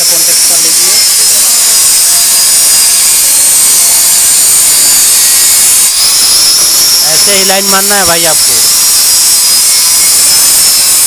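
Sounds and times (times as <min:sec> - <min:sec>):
angle grinder grinding steel: 0:00.0 - 0:11.0.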